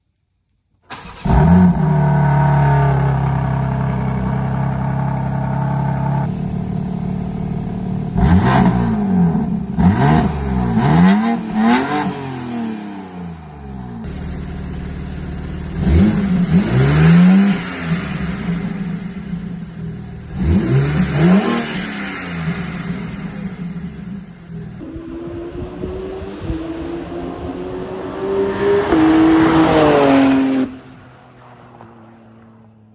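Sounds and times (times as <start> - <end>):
car engine starting and idling: 0.8 - 32.9
engine revving: 0.9 - 31.1.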